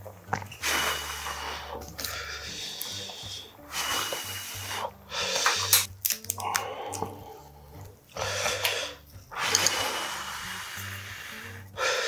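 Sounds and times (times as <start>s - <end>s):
soft background music: 0.0s - 12.0s
blowing and slurping noodles: 0.3s - 7.3s, 8.2s - 12.0s.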